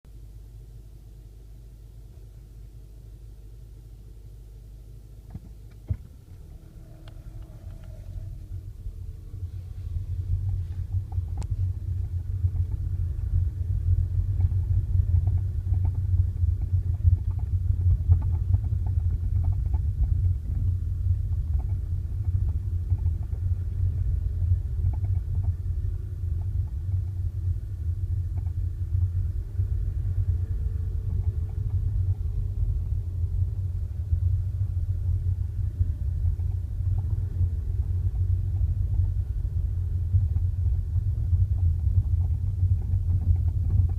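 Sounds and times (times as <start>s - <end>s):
car driving rumble: 0.0s - 43.9s.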